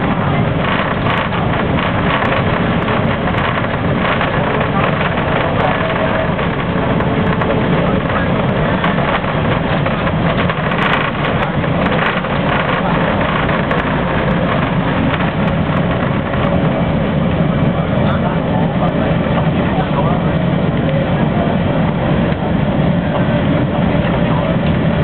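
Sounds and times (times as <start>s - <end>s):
hydrofoil turbines and water jets: 0.0s - 25.0s.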